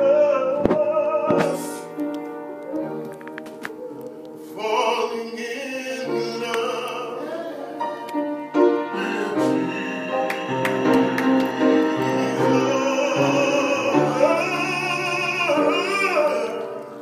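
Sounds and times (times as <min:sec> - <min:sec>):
man singing: 0:00.0 - 0:02.0, 0:04.0 - 0:07.9, 0:08.8 - 0:17.0.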